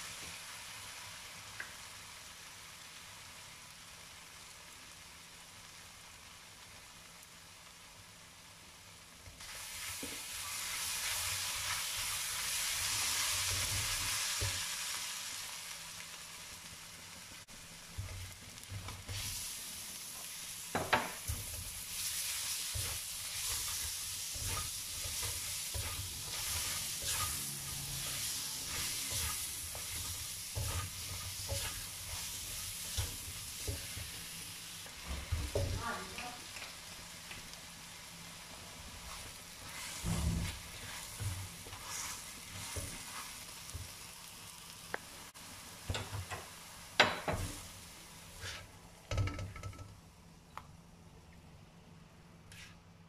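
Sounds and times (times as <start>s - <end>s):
garlic sizzling in hot oil: 0.0s - 49.9s.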